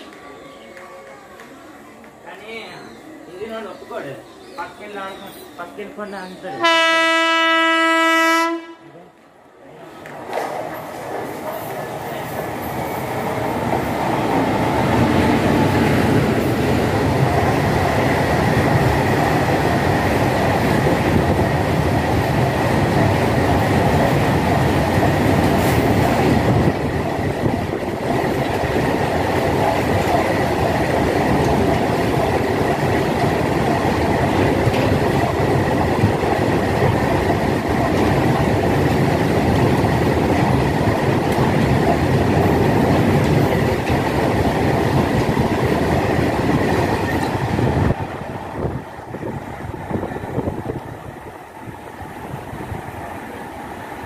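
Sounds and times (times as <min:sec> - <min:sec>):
train wheels rumbling on rails: 0:10.0 - 0:54.0.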